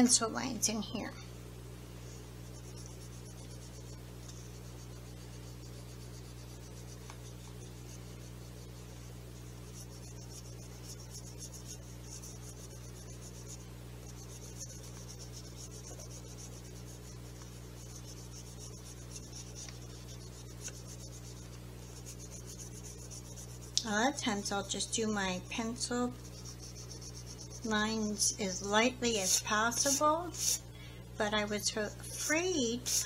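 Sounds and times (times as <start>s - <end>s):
eraser rubbing on paper: 2.0s - 30.6s, 31.6s - 33.0s.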